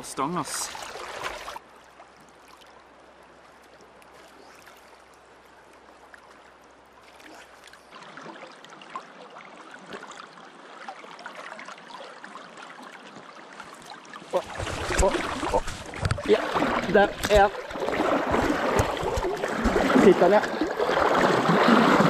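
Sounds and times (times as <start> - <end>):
river water rushing and trickling: 0.0 - 22.0.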